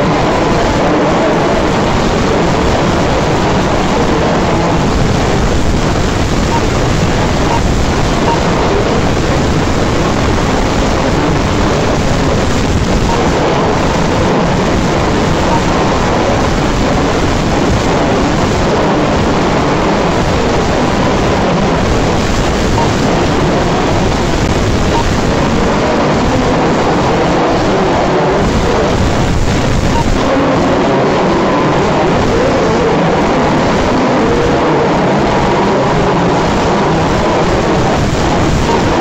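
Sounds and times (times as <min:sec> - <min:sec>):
crowd noise: 0:00.0 - 0:39.0
radio-controlled buggies racing: 0:00.0 - 0:39.0.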